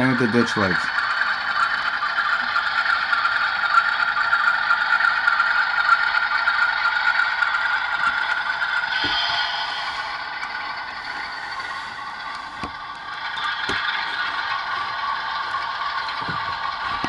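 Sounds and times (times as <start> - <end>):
diesel engine sound effect: 0.0 - 17.0
model locomotive whirring and rattling: 0.0 - 17.0.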